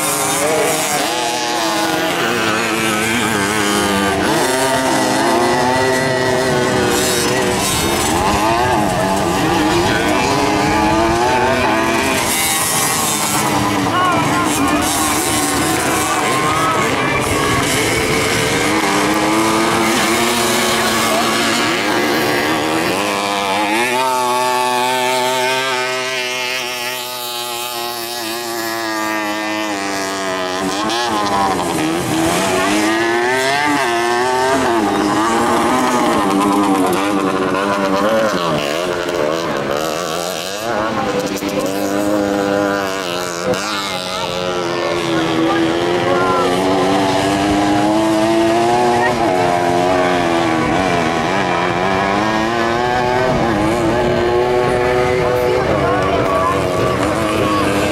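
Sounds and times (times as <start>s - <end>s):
two-stroke engines revving: 0.0s - 57.9s.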